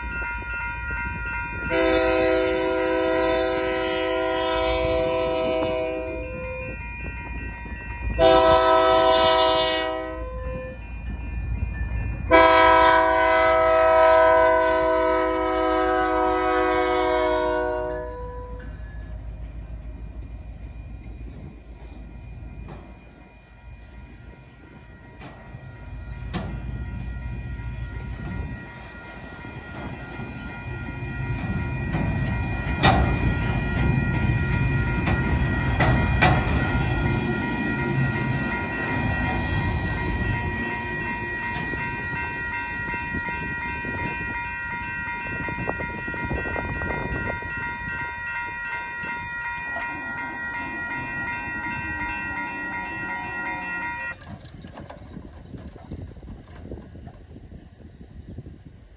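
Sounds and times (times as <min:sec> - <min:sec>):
high multi-note ringing tone: 0:00.0 - 0:54.2
train rumble and wheel clatter: 0:00.0 - 0:58.9.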